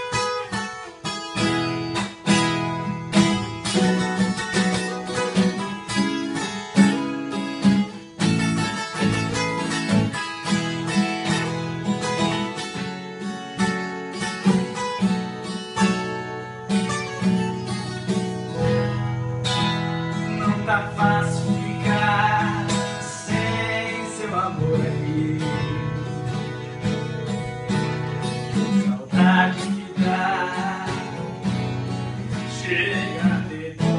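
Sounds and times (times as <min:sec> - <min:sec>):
acoustic guitar duet: 0:00.0 - 0:33.9.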